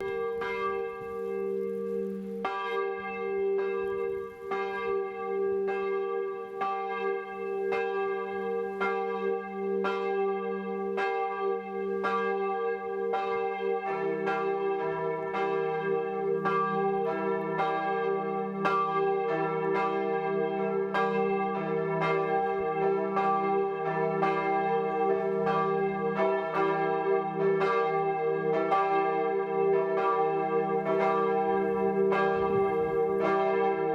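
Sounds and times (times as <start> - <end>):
church bells ringing: 0.0 - 33.9.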